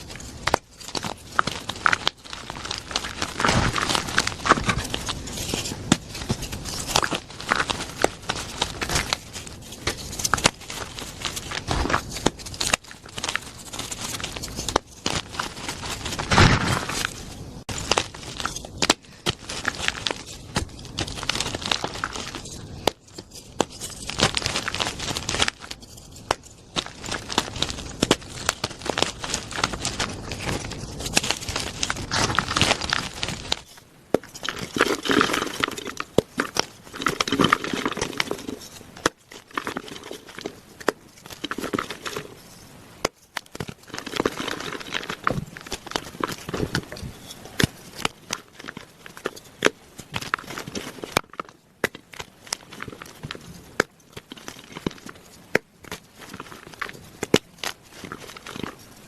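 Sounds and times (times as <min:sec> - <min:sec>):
chalk blocks being crushed: 0:00.0 - 0:59.0.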